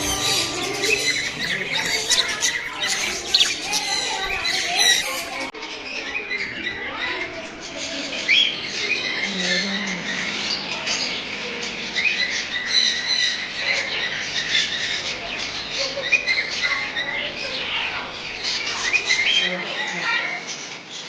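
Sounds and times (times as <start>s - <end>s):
many birds chirping and squawking: 0.0s - 21.0s.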